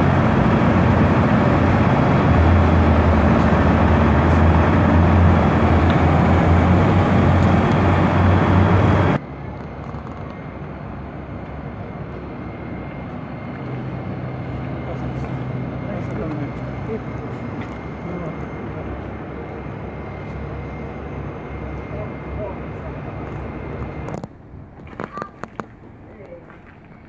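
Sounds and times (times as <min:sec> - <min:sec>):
heavy low hum: 0:00.0 - 0:25.0
tractor engines revving: 0:00.0 - 0:26.1.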